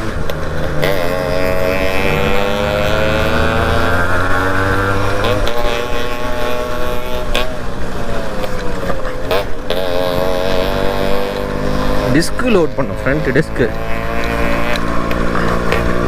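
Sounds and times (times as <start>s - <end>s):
two-stroke motorcycle engine running: 0.0s - 16.0s.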